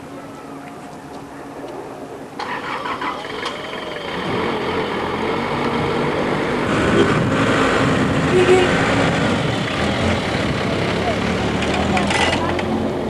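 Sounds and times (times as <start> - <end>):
engine running steadily: 0.8 - 13.0
rushing noise: 1.8 - 13.0.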